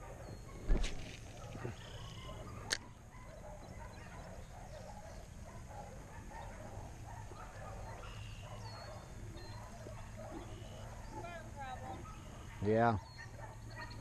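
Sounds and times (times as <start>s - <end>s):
dogs barking faintly: 0.0s - 14.0s.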